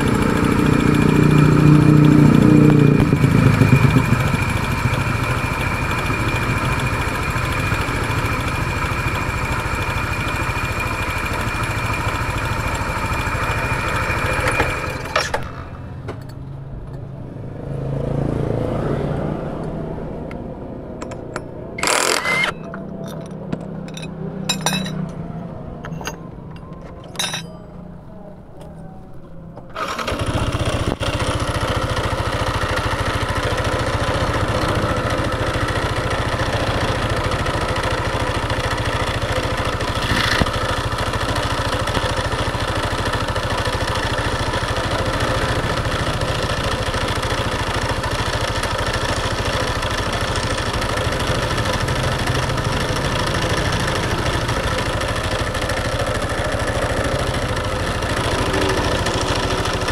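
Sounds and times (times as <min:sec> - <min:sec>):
motorcycle engine starting and idling: 0:00.0 - 0:17.3, 0:19.5 - 0:59.9.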